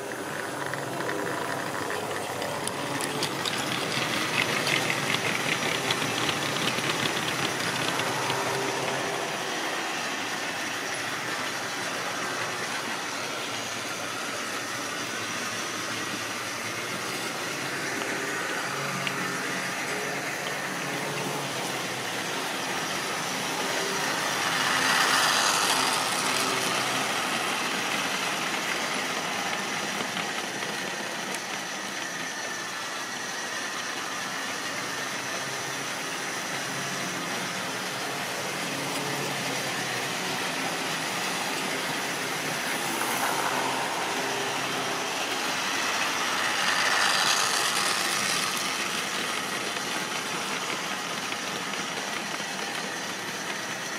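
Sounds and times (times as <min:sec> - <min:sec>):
model trains whirring on rails: 0:00.0 - 0:53.9.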